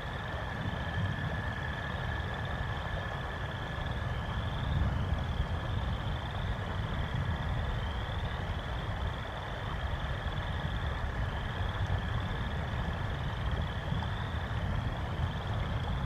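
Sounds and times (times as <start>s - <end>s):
wind and rain rumble: 0.0s - 16.0s.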